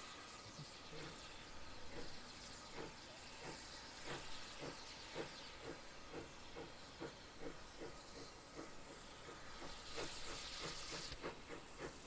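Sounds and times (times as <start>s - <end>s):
steady hiss of steam: 0.0s - 12.0s
steam locomotive chimney exhaust beats: 0.0s - 12.0s.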